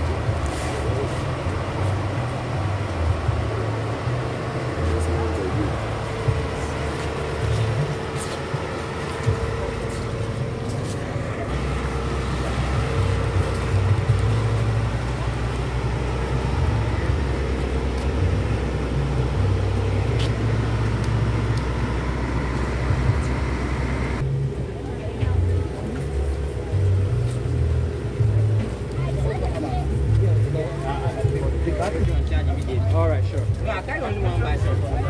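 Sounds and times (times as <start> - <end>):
people chatting: 0.0 - 21.4, 24.5 - 35.0
vehicle engine idling: 0.0 - 35.0.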